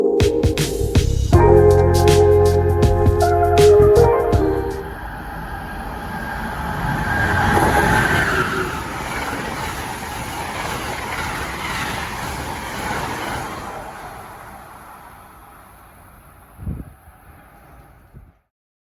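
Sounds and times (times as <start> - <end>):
train rumbling past: 0.4 - 18.4.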